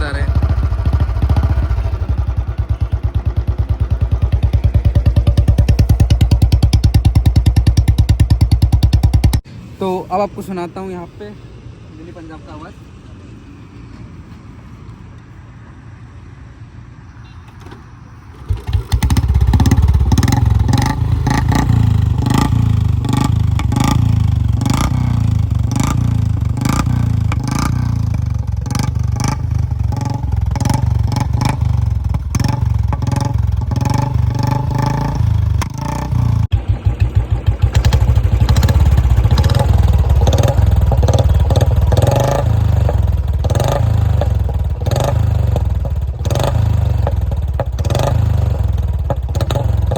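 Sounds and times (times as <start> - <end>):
motorcycle exhaust thumping: 0.0 - 9.5, 18.4 - 49.9.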